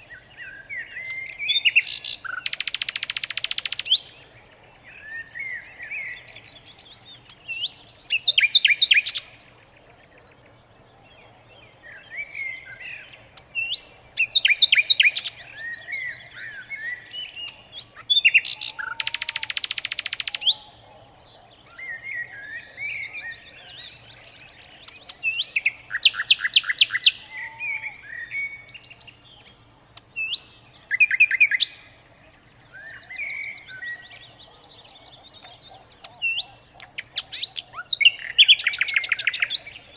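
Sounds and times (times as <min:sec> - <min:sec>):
bird twittering chirps: 0:00.0 - 0:10.3, 0:11.8 - 0:39.9.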